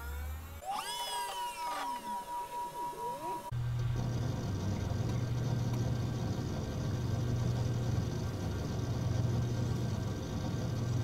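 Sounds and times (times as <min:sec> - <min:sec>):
hard drive and fans whirring: 0:00.0 - 0:11.0.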